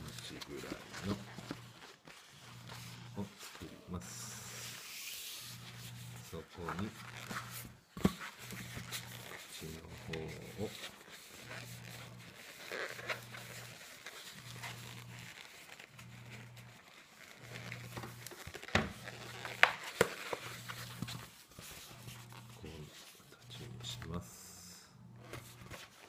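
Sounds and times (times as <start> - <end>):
balloon rubbing and squeaking: 0.0 - 24.0.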